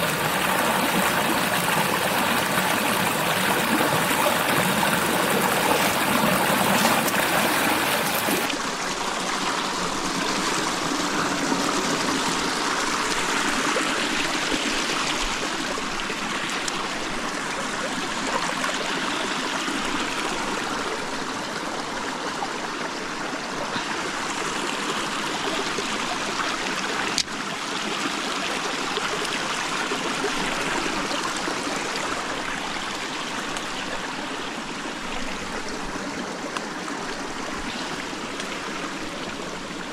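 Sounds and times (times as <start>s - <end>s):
running water stream: 0.0s - 39.9s.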